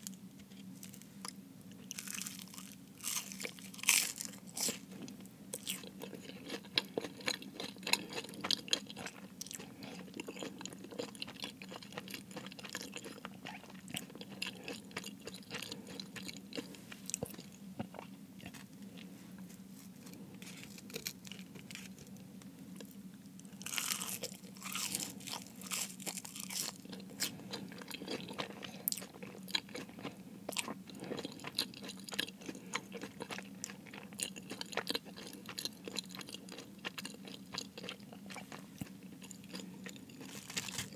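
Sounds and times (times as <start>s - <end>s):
chewing crunchy pastry: 0.1s - 40.9s.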